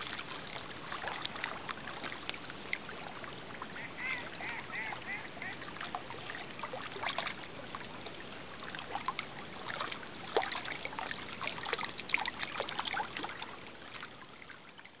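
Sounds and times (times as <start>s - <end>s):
small waves lapping shore: 0.0s - 14.9s.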